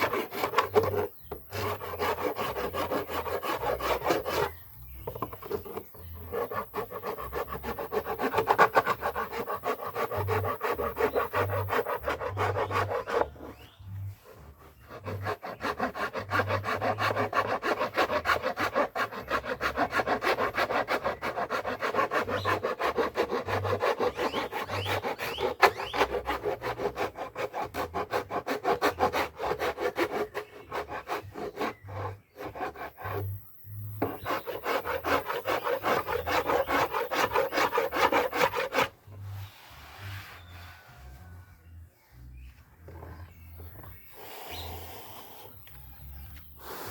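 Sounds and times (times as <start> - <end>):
sanding wood by hand: 0.0 - 13.6, 14.2 - 41.2.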